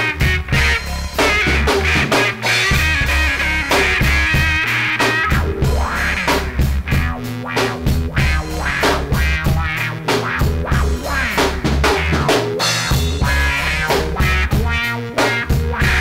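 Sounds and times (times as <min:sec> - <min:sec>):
instrumental rock music: 0:00.0 - 0:16.0.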